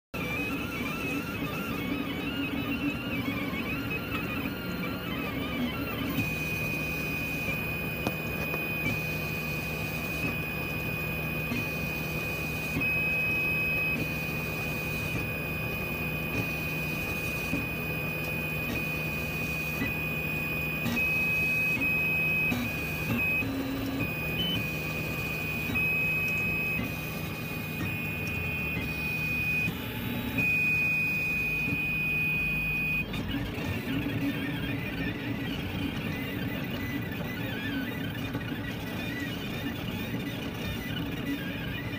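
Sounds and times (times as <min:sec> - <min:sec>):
three-d printer motors whining: 0:00.2 - 0:41.9.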